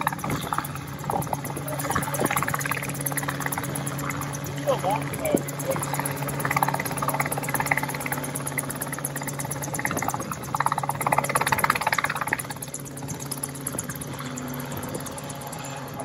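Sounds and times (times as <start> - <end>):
helicopter rotor chop and engine: 0.0 - 16.0.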